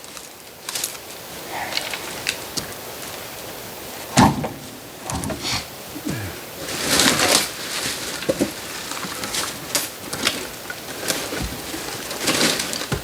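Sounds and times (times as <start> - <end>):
firewood scraping and rustling: 0.0 - 13.0.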